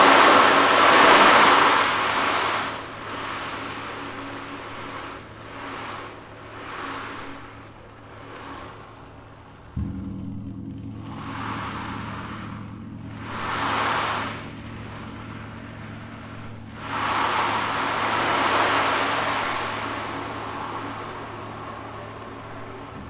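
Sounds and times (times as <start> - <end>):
gong humming: 0.0 - 23.0
ocean drum swooshing: 0.0 - 23.0.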